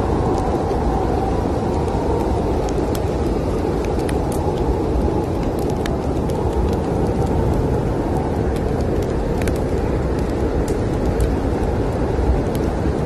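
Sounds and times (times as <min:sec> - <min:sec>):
snowstorm wind roaring: 0:00.0 - 0:13.0
wood fire crackling: 0:00.0 - 0:13.0.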